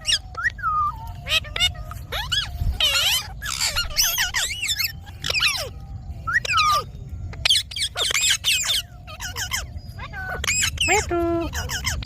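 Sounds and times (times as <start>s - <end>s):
low background rumble: 0.0s - 12.0s
parakeet chirps and whistles: 0.0s - 12.0s.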